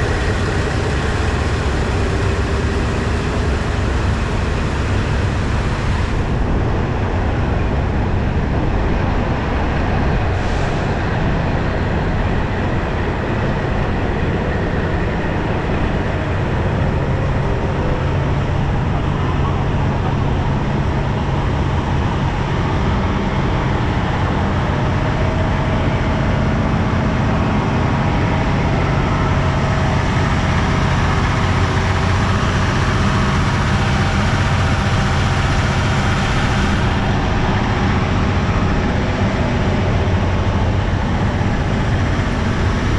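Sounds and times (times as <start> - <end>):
broad rushing noise: 0.0 - 42.9
diesel train engine humming: 0.0 - 42.9.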